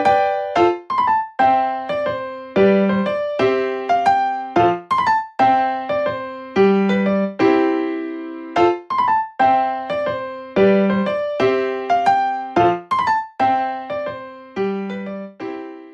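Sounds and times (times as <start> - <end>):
electric piano melody: 0.0 - 15.9.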